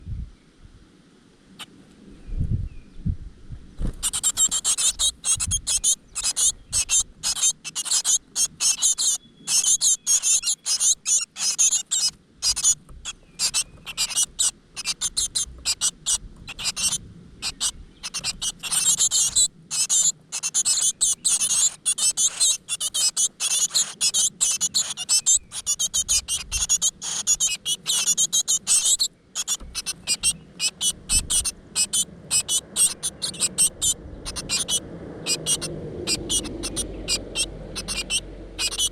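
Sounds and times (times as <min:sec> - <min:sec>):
nestlings begging calls: 0:03.9 - 0:38.9.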